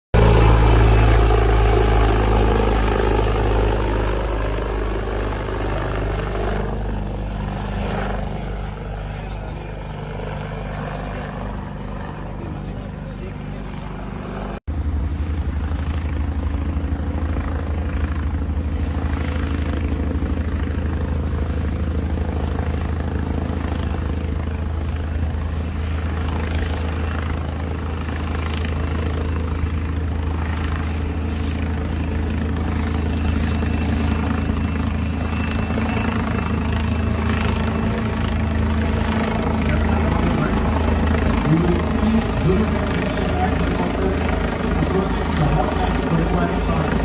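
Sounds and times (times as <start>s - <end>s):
helicopter rotor thrum: 0.2s - 47.0s.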